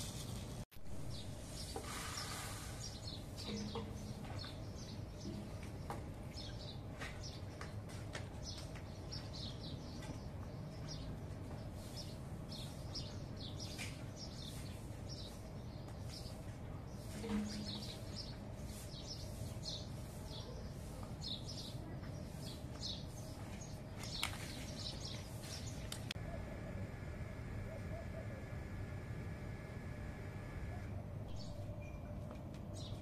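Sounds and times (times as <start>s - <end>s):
small birds chirping: 1.1s - 32.1s, 32.8s - 33.0s.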